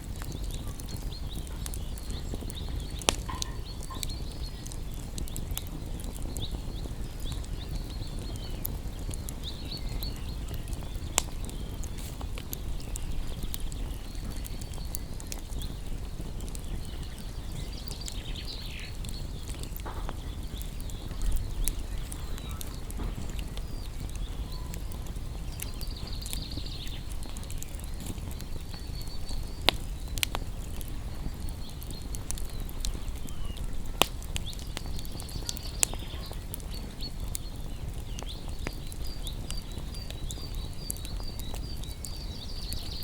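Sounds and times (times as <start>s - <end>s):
fire low rumble: 0.0s - 43.0s
wood crackling and popping: 0.0s - 43.0s.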